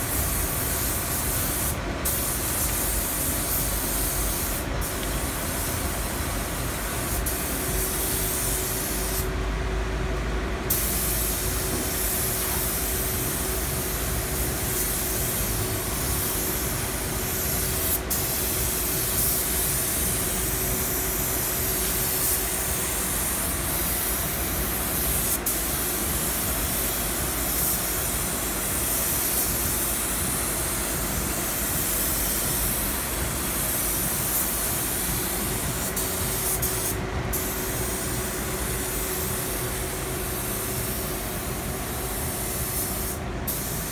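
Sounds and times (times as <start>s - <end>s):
spray gun hissing: 0.0s - 9.3s, 10.7s - 43.9s.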